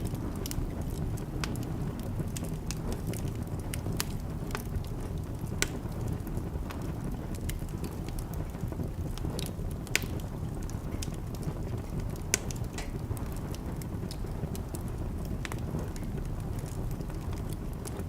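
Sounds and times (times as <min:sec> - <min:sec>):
fire rumbling: 0:00.0 - 0:18.0
loud pops of burning wood: 0:00.0 - 0:18.0
wood fire crackling: 0:00.0 - 0:18.0.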